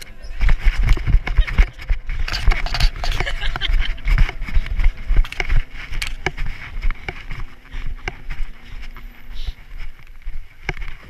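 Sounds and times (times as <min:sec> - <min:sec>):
running footsteps on paving: 0:00.0 - 0:11.0.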